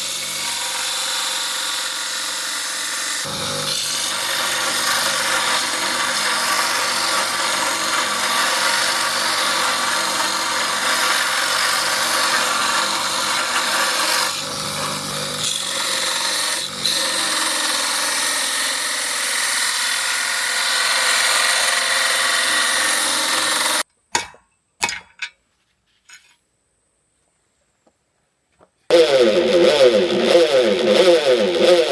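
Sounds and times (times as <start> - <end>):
power tool grinding: 0.0 - 23.8, 28.9 - 31.9.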